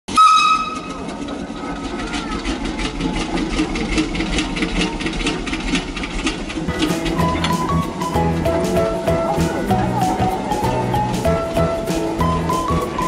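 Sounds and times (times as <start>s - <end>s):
machinery clattering and ticking: 0.6s - 13.0s.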